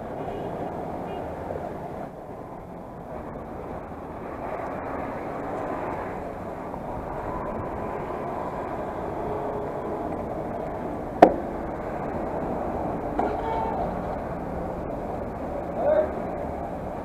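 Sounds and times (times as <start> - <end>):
muffled road traffic hum: 0.0 - 17.0.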